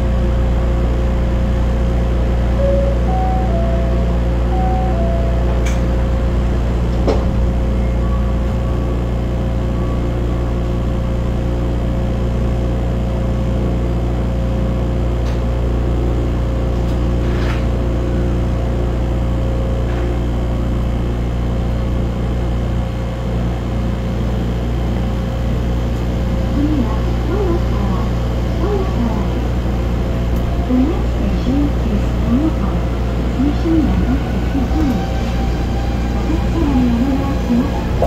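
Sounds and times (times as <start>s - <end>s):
train motors humming: 0.0s - 38.0s.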